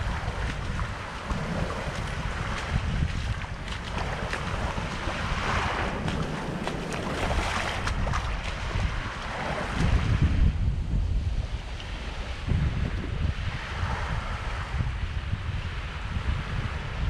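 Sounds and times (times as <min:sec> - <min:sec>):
small waves washing on beach: 0:00.0 - 0:17.0
wind buffeting microphone: 0:00.0 - 0:17.0.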